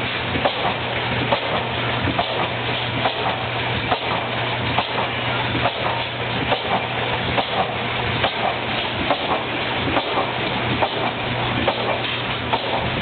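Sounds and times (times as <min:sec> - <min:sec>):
old engines clattering and hissing: 0:00.0 - 0:13.0
stationary gas engine beat: 0:00.0 - 0:13.0.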